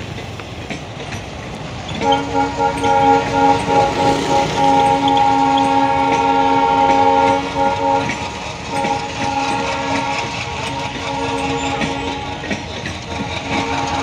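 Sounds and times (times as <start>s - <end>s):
moving train rumble: 0.0s - 14.0s
wheels clacking over rail joints: 0.0s - 14.0s
locomotive air horn: 1.9s - 14.0s.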